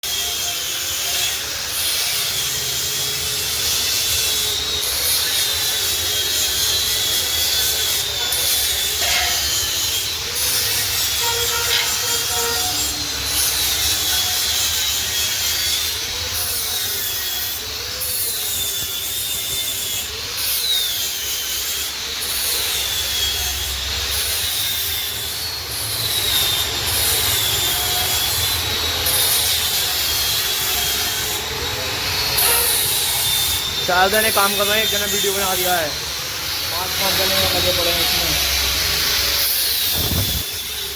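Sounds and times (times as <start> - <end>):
angle grinder grinding steel: 0.0 - 40.9.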